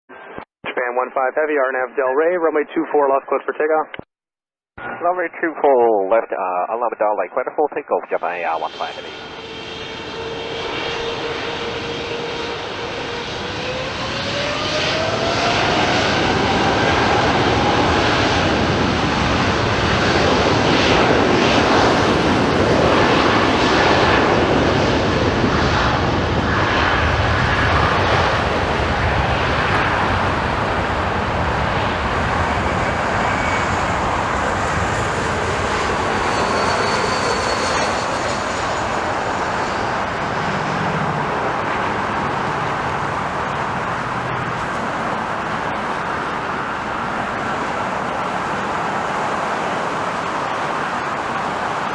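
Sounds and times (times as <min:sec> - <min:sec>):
jet engines spooling up: 0:08.3 - 0:51.9.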